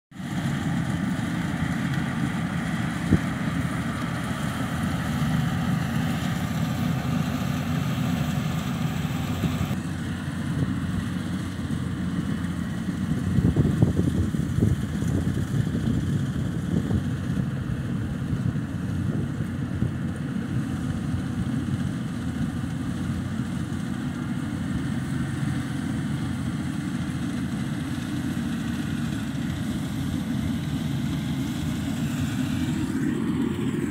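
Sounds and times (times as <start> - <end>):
harvester engine running: 0.2 - 33.9.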